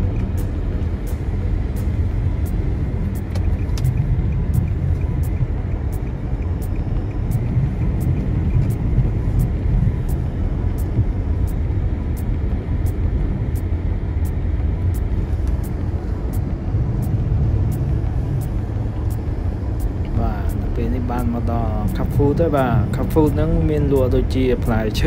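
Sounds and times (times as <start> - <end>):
car engine and tyres on snow: 0.0 - 25.0
faint regular ticking: 0.1 - 25.0.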